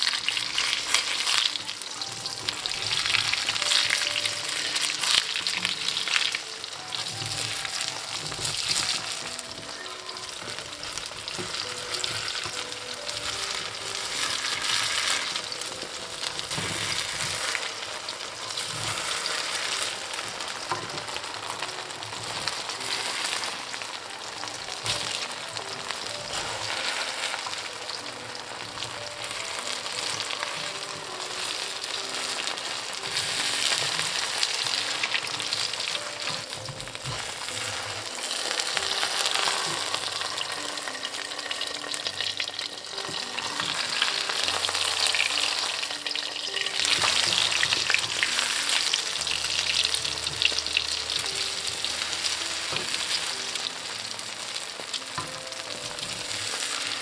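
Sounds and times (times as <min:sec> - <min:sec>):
hot oil sizzling and crackling: 0:00.0 - 0:57.0.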